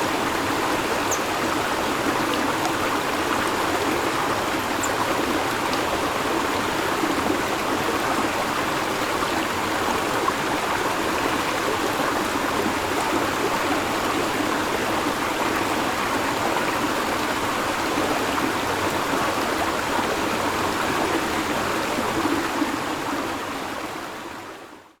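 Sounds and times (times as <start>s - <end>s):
river water flowing over rocks: 0.0s - 24.8s.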